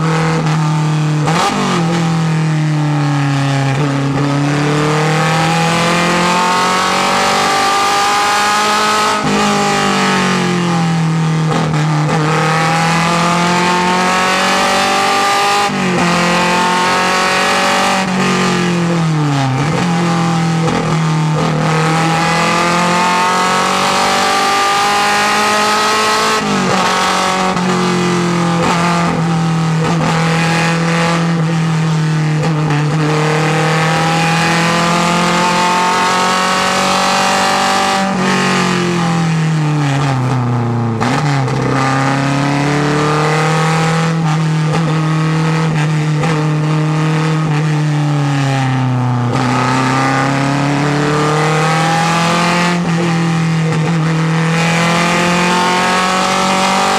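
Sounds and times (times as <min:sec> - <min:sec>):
racing engine pulling through gears: 0:03.2 - 0:48.4, 0:49.2 - 0:56.9.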